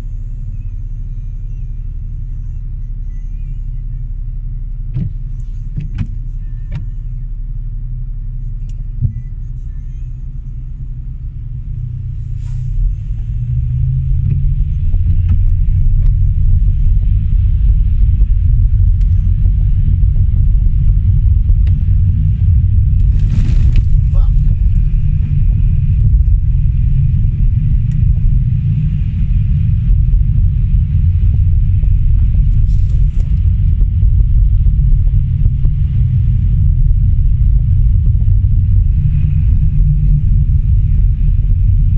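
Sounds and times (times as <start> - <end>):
car road rumble: 0.0 - 41.9.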